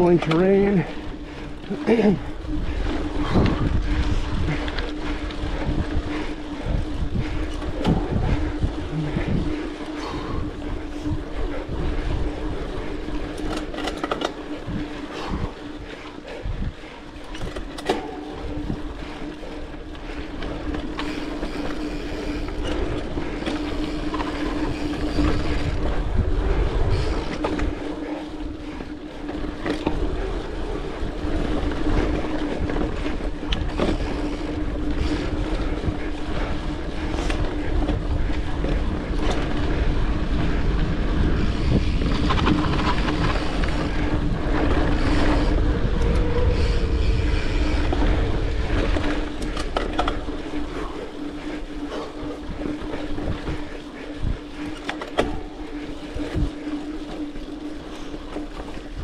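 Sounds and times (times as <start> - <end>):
bike knocking and rattling over bumps: 0.0 - 59.0
bike tyres and drivetrain humming: 0.0 - 59.0.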